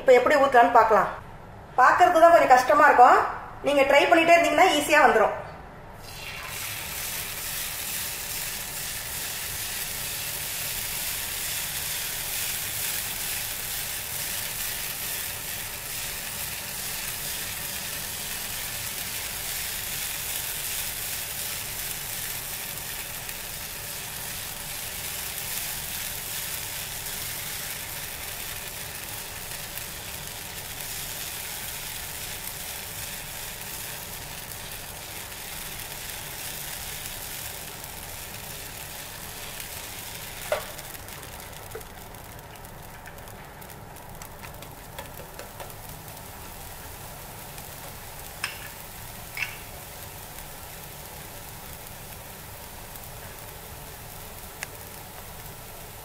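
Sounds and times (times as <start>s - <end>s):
batter sizzling on a hot griddle: 6.0s - 56.0s.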